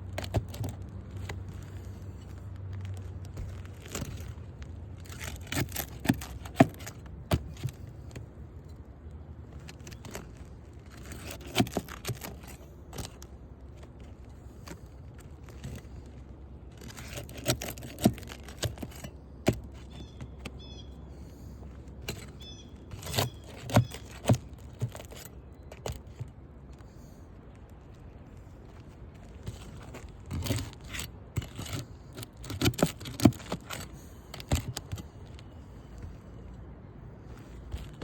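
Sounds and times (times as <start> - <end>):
pry bar clicking and scraping: 0.0 - 38.0.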